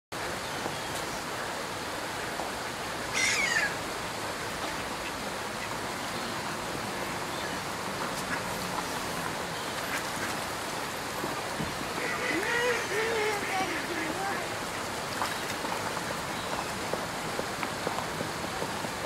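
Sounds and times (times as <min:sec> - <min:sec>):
river water rushing: 0:00.2 - 0:19.0.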